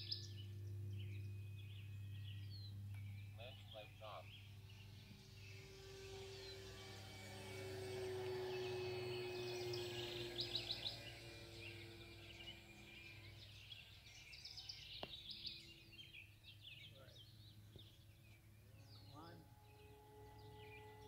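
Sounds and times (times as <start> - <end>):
birds chirping: 0.0 - 21.0
model plane motor humming: 0.0 - 21.0.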